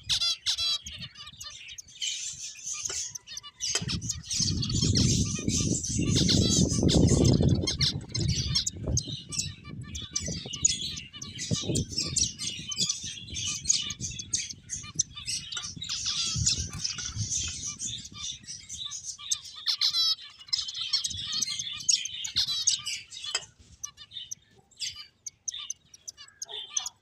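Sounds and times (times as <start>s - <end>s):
finches chirping: 0.0s - 27.0s
rattling bird trill: 0.0s - 27.0s.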